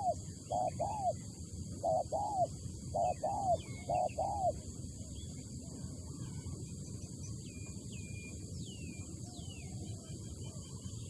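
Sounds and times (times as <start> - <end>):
small birds whistling: 0.0 - 1.2, 1.8 - 5.4, 6.2 - 11.0
low outdoor rumble: 0.0 - 11.0.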